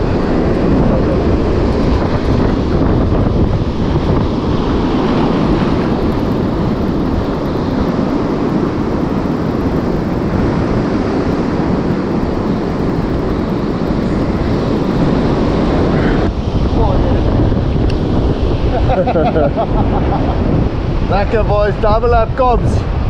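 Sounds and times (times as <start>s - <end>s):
surf washing on beach: 0.0s - 23.0s
wind buffeting microphone: 0.0s - 23.0s.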